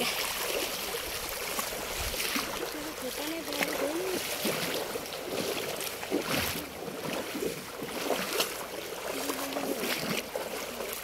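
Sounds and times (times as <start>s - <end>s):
feet splashing through water: 0.0s - 11.0s
river water rushing: 0.0s - 11.0s.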